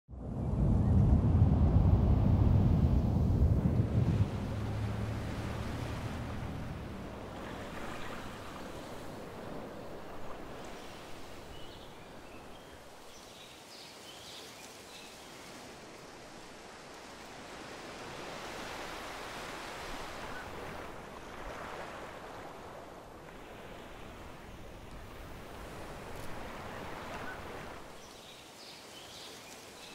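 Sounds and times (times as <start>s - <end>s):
ocean surf washing on shore: 0.2s - 29.9s.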